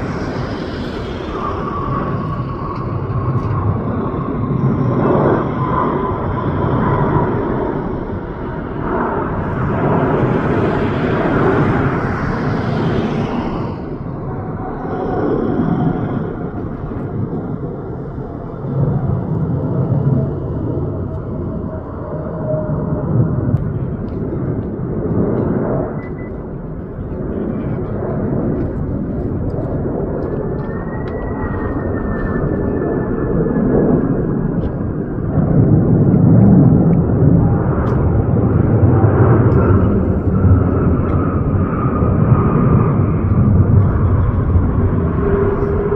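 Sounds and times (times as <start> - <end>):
jet airliner engine rush: 0.0 - 45.9.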